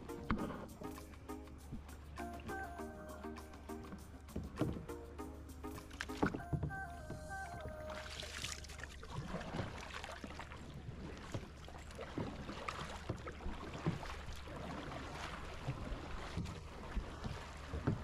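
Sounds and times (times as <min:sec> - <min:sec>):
paddle splashing in water: 0:00.0 - 0:18.0.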